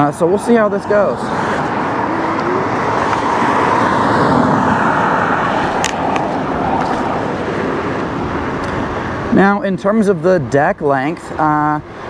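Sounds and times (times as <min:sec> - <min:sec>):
rushing road and wind noise: 0:00.0 - 0:12.0.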